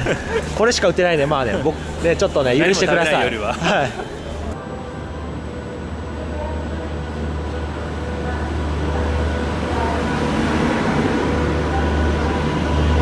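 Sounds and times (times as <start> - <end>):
train rumbling slowly past: 0.0 - 13.0.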